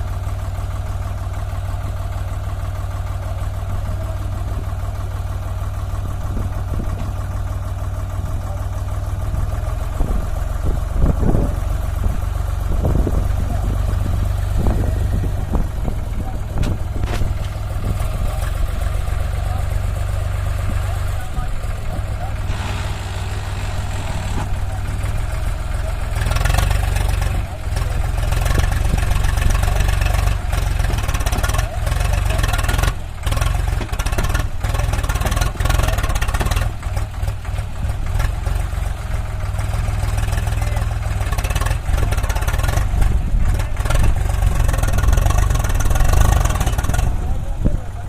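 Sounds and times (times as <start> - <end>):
diesel engine rumbling: 0.0 - 48.0.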